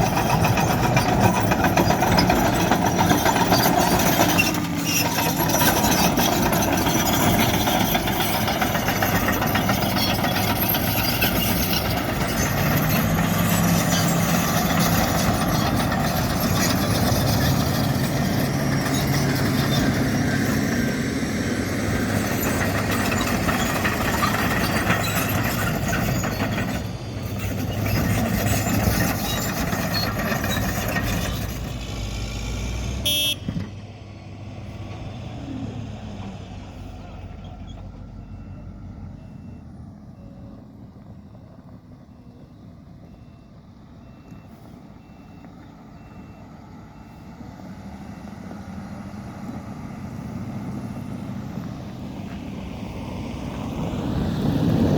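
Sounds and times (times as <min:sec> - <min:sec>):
diesel earthmoving machinery running: 0:00.0 - 0:54.9.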